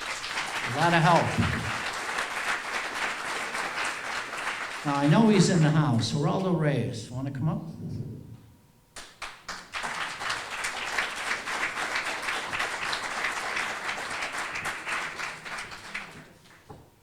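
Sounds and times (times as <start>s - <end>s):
audience applauding: 0.0s - 6.4s, 9.0s - 16.8s.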